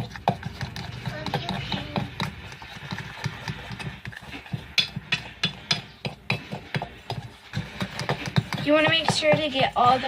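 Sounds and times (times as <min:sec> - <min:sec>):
stirring thick mixture: 0:00.0 - 0:10.0
utensil clacking against bowl: 0:00.0 - 0:10.0.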